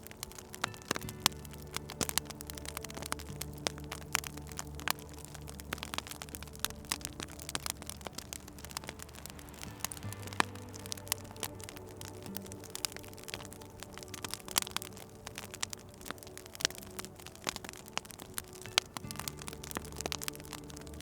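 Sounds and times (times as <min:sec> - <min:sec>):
low steady drone: 0:00.0 - 0:21.0
wood fire crackling and popping: 0:00.0 - 0:21.0.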